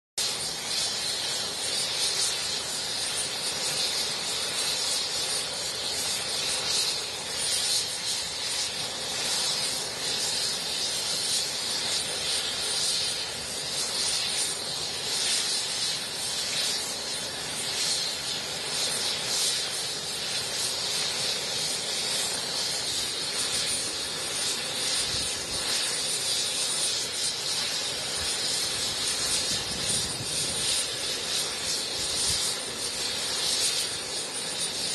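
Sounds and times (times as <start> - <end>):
helicopter engine whine: 0.2 - 34.9.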